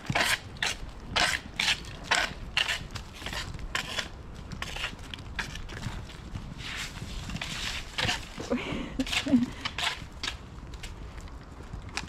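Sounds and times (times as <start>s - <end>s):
skate wheels rolling on rough asphalt: 0.0s - 12.0s
wind rumble on microphone: 0.0s - 12.0s.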